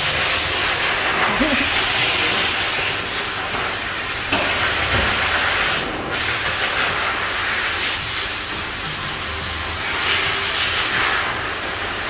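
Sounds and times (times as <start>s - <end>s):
water splashing on metal tub: 0.0s - 12.0s
water spraying from shower hose: 0.0s - 12.0s.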